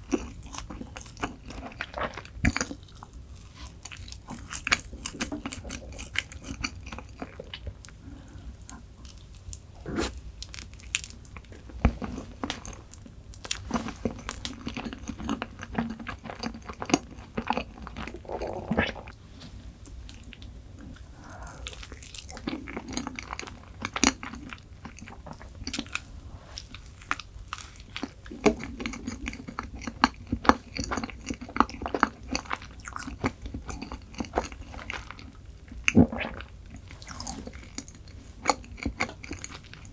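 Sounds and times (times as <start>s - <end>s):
chewing crunchy dessert: 0.0s - 19.2s, 20.1s - 39.9s.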